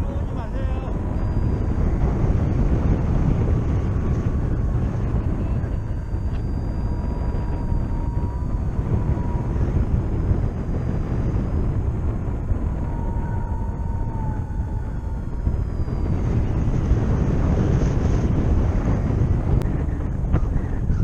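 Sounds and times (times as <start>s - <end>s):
faint high wavering tones: 0.0s - 21.0s
wind buffeting microphone: 0.0s - 21.0s.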